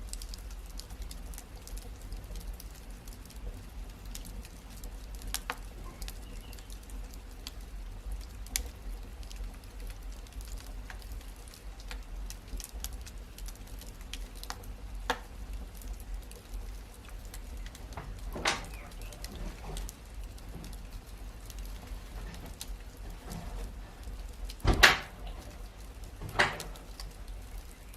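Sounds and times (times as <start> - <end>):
loud fire pops: 0.0 - 27.9
wood fire crackling: 0.0 - 27.9.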